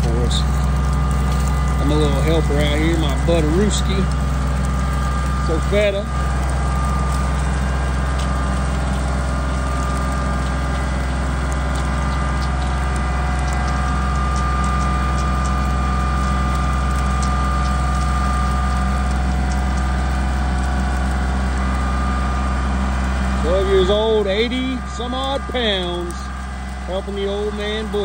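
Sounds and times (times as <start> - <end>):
rotary cutter whine: 0.0 - 28.0
tractor engine drone: 0.0 - 28.0.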